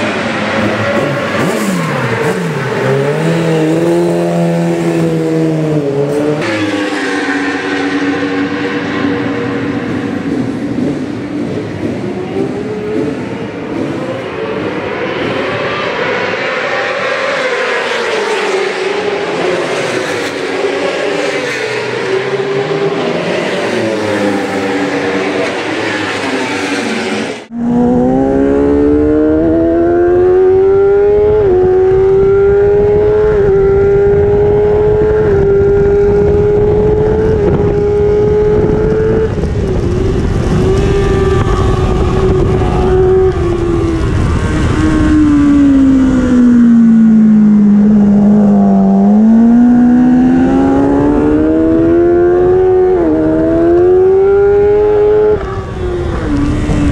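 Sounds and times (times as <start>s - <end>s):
engine noise: 0.0s - 56.9s
motorcycle engine revving: 0.0s - 56.9s.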